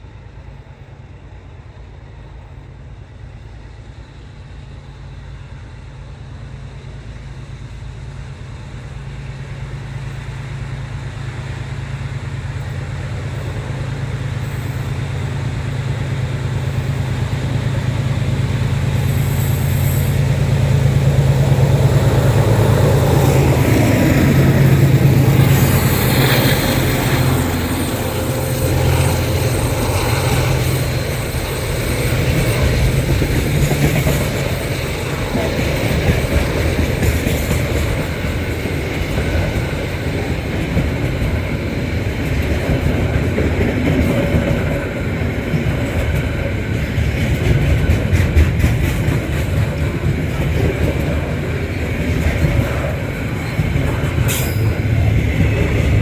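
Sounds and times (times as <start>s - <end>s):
locomotive engine drone: 0.0s - 56.0s
train wheels clicking over rails: 6.7s - 56.0s.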